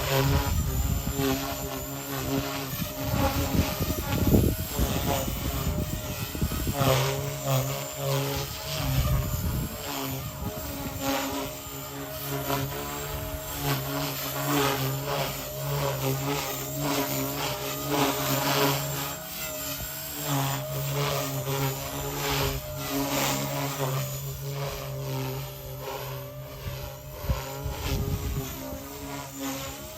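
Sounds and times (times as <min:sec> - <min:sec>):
rc helicopter whirring: 0:00.0 - 0:29.9.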